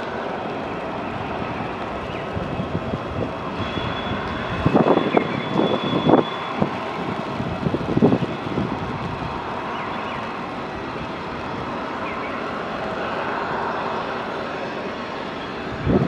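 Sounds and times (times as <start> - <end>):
high engine whine: 0.0 - 16.0
jet engine rumble: 0.0 - 16.0
rain: 0.0 - 16.0.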